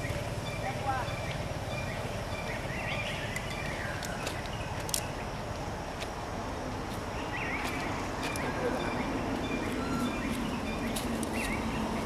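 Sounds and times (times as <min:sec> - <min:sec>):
noisy outdoor background: 0:00.0 - 0:12.0.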